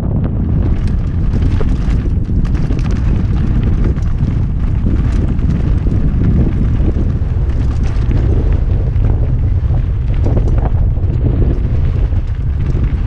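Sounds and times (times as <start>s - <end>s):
bike tyres rattling over stones: 0.0s - 13.0s
wind buffeting microphone: 0.0s - 13.0s.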